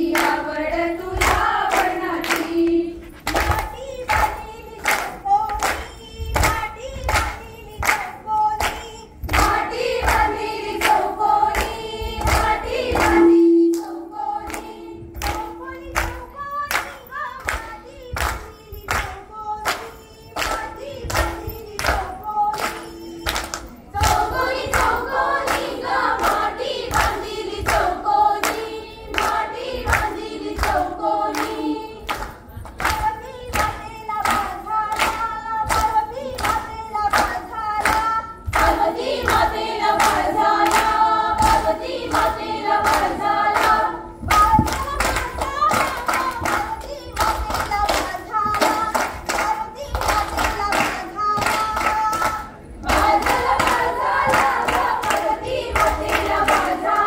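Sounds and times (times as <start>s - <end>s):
rhythmic hand-clapping: 0.0s - 57.0s
women singing folk song: 0.0s - 57.0s.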